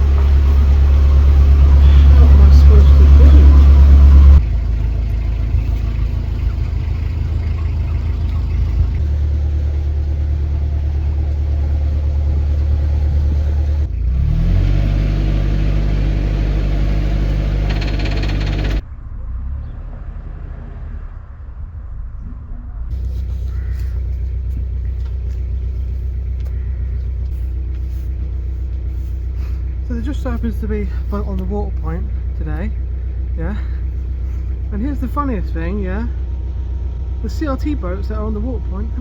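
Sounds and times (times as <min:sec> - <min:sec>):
boat engine running: 0:00.0 - 0:18.8, 0:22.9 - 0:39.0.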